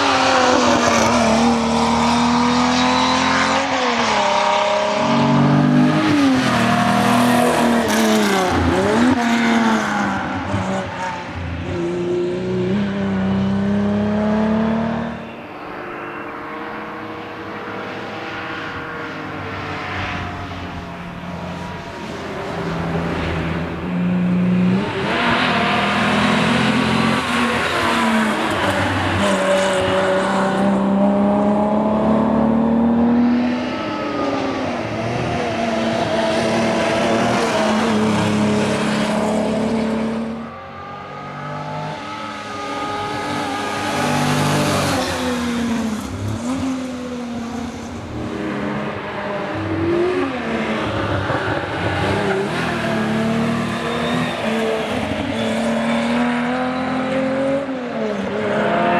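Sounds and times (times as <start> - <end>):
rally car engine revving: 0.0 - 58.9.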